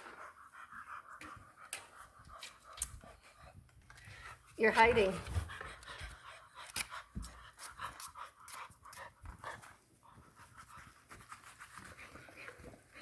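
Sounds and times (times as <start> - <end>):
puppy panting faintly: 0.0 - 13.0.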